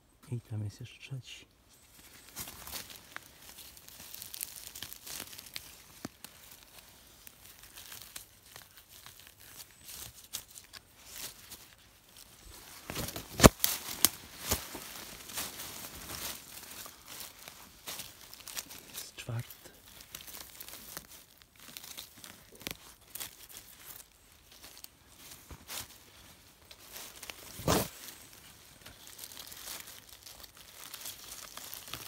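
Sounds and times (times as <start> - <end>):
dry leaves rustling and crackling: 1.7 - 32.0
twigs cracking: 1.8 - 32.0.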